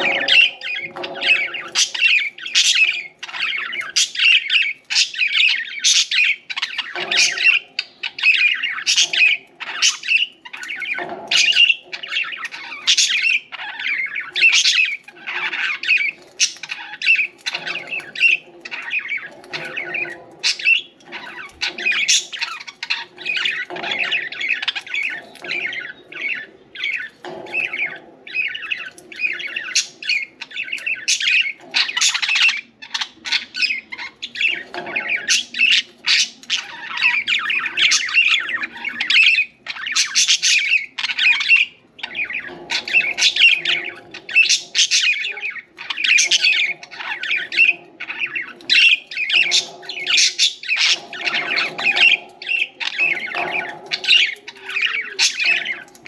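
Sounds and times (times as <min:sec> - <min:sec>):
budgerigars chattering and chirping: 0:00.0 - 0:56.0.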